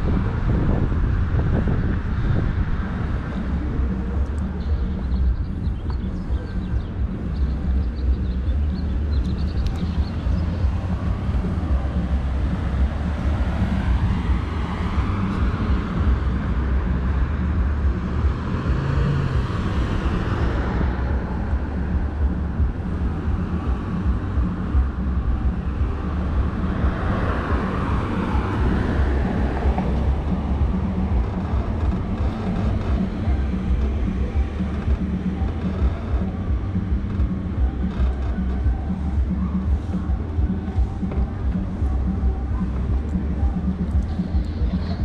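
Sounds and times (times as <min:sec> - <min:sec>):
bicycle tyre and road noise: 0:00.0 - 0:45.0
passing traffic: 0:00.0 - 0:45.0
wind rumbling on microphone: 0:00.0 - 0:45.0.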